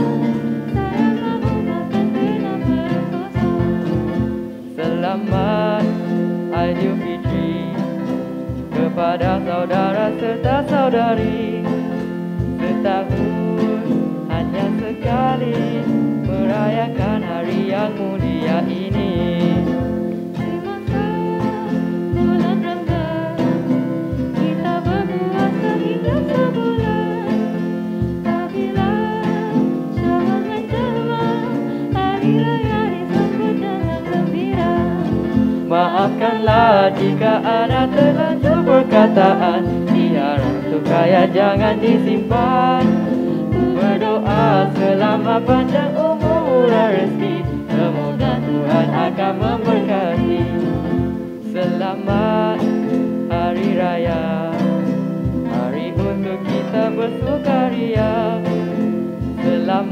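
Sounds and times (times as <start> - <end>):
acoustic guitar: 0.0 - 59.9
boy and girl singing: 0.0 - 59.9
cajon beat: 0.0 - 59.9
keyboard: 0.0 - 59.9.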